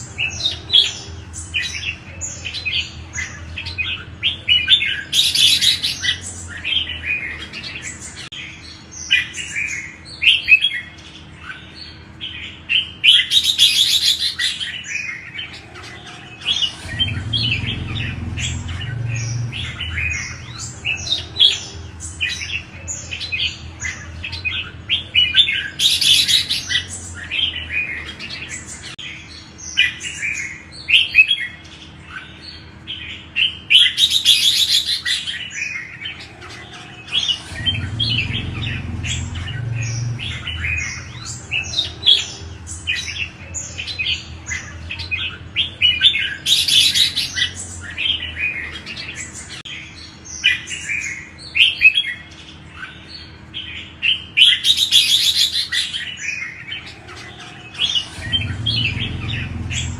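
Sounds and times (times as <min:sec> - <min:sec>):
bird harsh rasping call: 0:00.0 - 0:31.6, 0:33.2 - 0:49.8, 0:53.8 - 0:59.9
bird chirping: 0:00.0 - 0:59.9.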